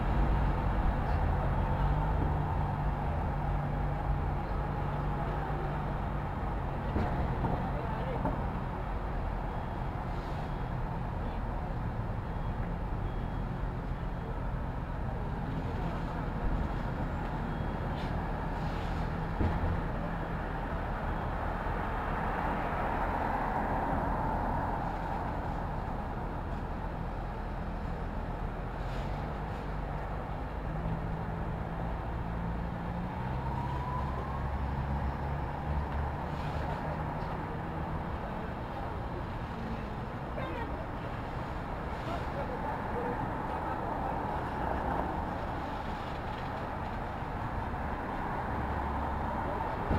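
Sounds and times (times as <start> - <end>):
city street traffic: 0.0 - 49.9
passing vehicles: 0.0 - 49.9.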